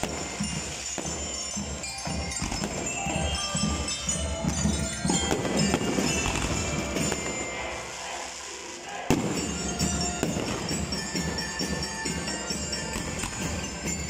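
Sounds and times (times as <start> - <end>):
fireworks crackling and popping: 0.0 - 14.0
music playing: 0.0 - 14.0.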